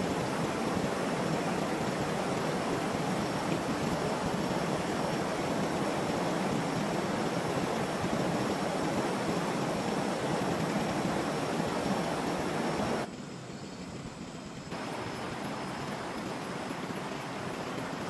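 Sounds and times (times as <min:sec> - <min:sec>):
water rushing: 0:00.0 - 0:13.1, 0:14.7 - 0:18.0.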